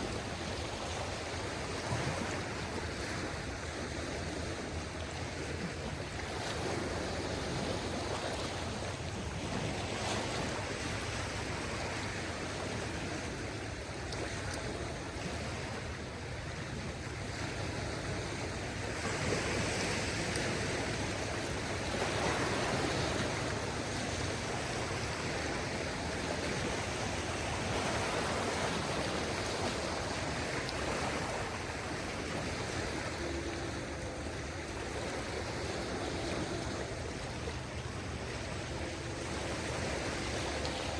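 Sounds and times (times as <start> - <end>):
small waves washing onto shore: 0.0 - 40.9.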